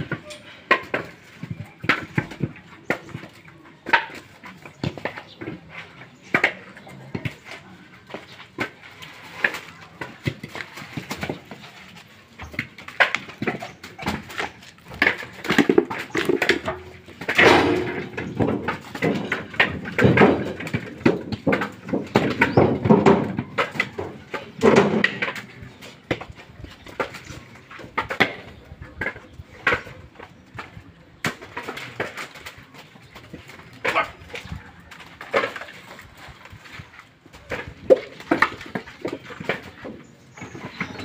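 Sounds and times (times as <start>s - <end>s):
coconuts thudding into baskets: 0.0s - 41.0s.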